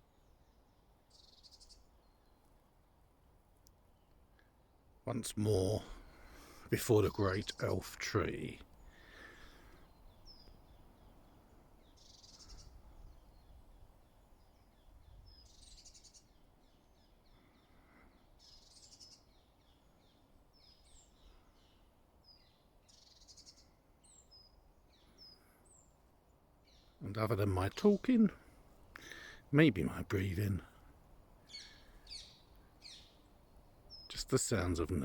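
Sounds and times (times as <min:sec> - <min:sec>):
birds chirping: 0:03.7 - 0:35.0.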